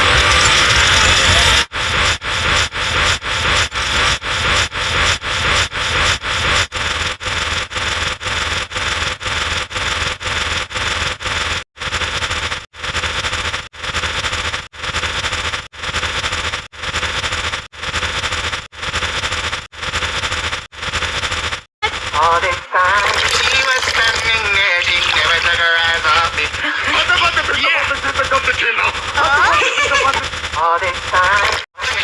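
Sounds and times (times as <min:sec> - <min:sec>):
rhythmic static bursts: 0:00.0 - 0:32.0.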